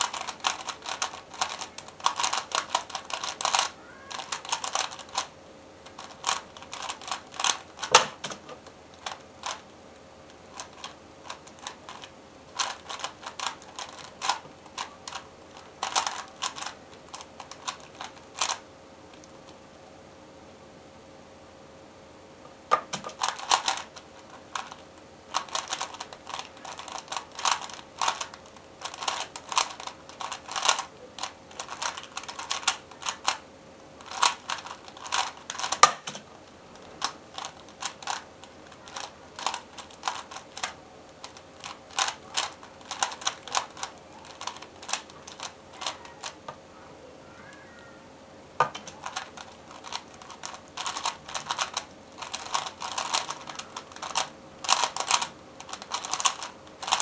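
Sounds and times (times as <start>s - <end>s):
puzzle cube layers clacking: 0.0s - 9.6s, 10.5s - 18.6s, 22.8s - 33.4s, 34.0s - 46.4s, 48.7s - 57.0s.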